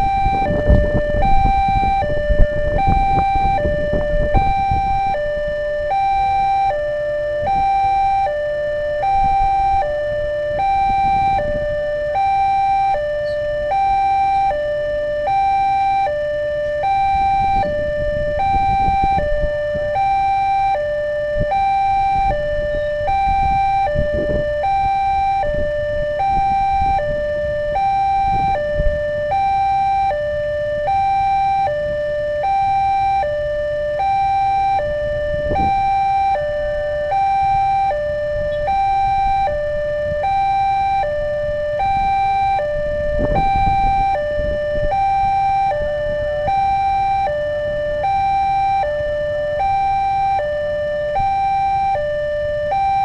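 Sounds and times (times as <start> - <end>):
two-tone level crossing alarm: 0.0 - 53.0.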